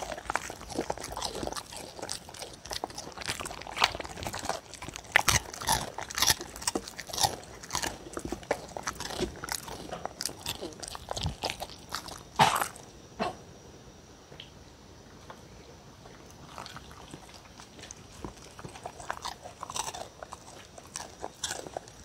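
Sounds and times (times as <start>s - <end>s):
dog crunching and chewing: 0.0s - 12.9s, 16.1s - 22.0s.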